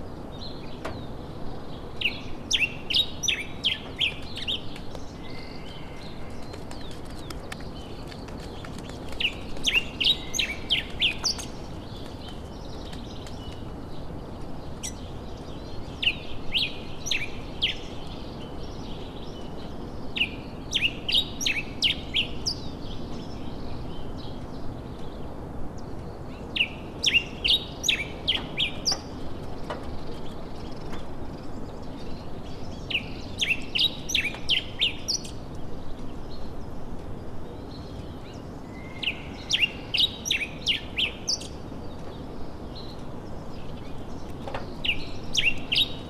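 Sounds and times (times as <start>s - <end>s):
songbird chirping: 0.0s - 46.0s
steady background hiss: 0.0s - 46.0s.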